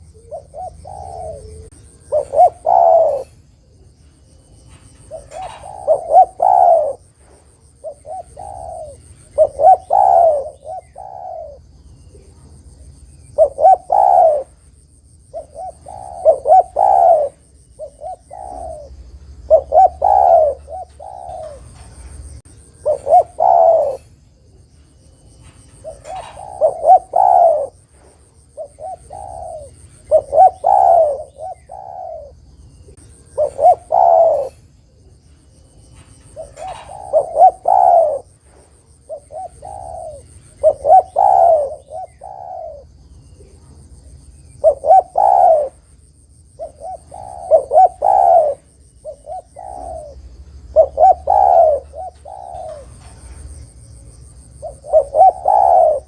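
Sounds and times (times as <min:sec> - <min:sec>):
dove cooing: 0:00.0 - 0:12.5, 0:13.4 - 0:14.6, 0:15.3 - 0:43.8, 0:44.5 - 0:45.9, 0:46.6 - 0:56.0
faint high-pitched insect buzz: 0:00.0 - 0:56.0.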